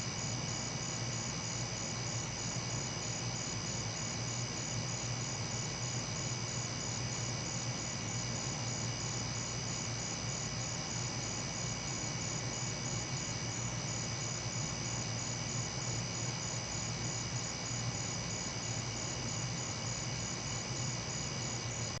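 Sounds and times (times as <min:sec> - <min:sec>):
crickets and night insects: 0:00.0 - 0:22.0.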